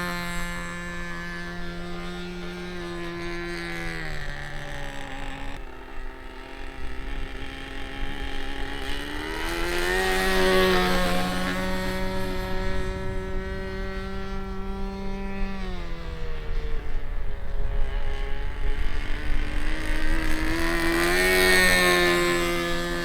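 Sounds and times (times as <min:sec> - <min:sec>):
model airplane engine running: 0:00.0 - 0:23.0.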